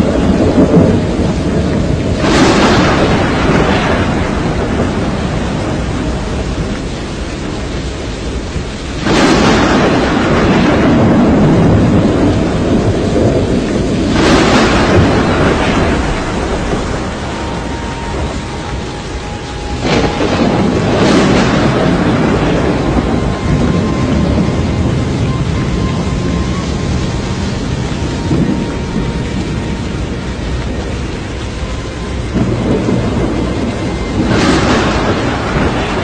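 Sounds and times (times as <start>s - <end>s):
heavy rain: 0.0s - 36.0s
storm wind: 0.0s - 36.0s.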